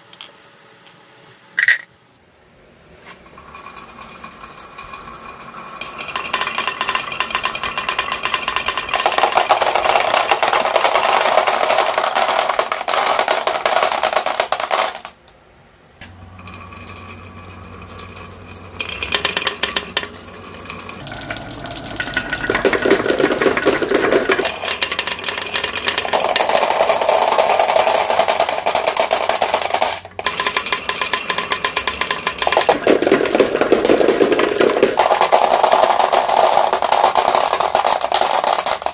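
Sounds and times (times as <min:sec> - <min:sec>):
marbles dropping into plastic truck: 0:03.2 - 0:15.3, 0:16.0 - 0:38.9
marbles rattling down wooden track: 0:03.3 - 0:15.3, 0:16.0 - 0:38.9.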